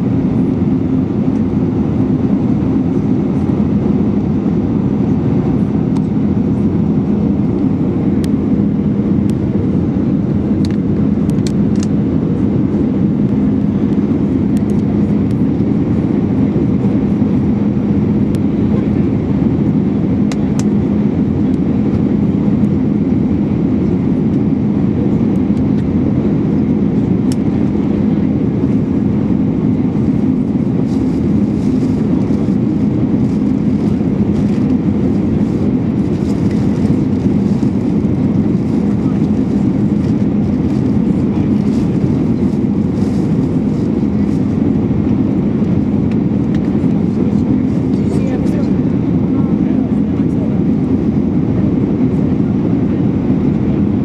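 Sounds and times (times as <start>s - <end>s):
jet engines running: 0.0s - 54.0s
rushing airflow: 3.6s - 54.0s.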